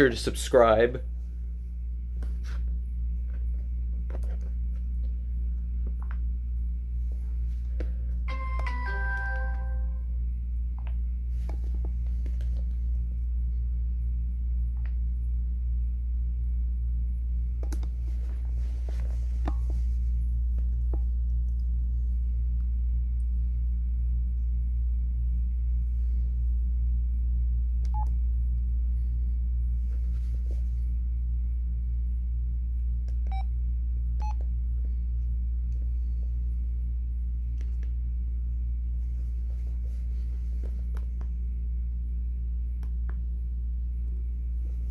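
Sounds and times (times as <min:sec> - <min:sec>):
low electrical hum: 0:00.0 - 0:44.9.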